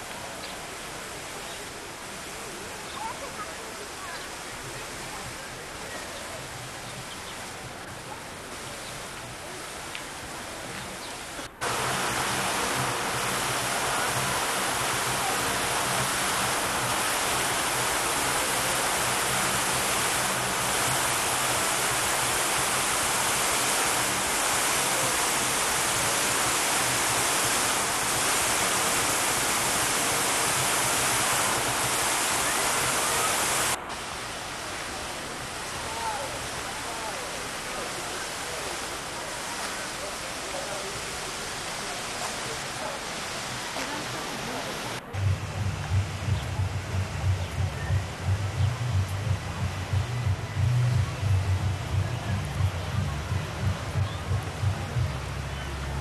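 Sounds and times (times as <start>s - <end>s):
faint voices: 0.0s - 56.0s
fountain water splashing: 0.0s - 56.0s.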